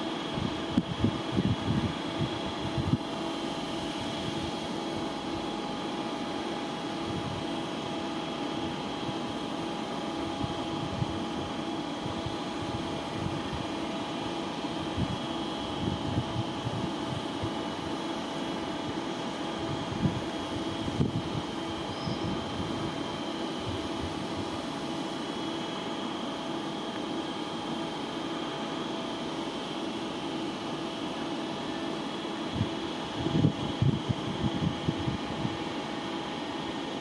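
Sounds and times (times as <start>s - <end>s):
electric train hum and fan: 0.0s - 37.0s.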